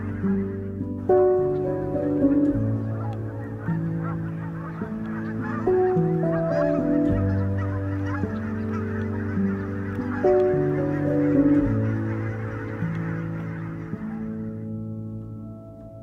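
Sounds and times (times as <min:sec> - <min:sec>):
flock of geese honking: 0:00.0 - 0:16.0
music of slow held chords: 0:00.0 - 0:16.0.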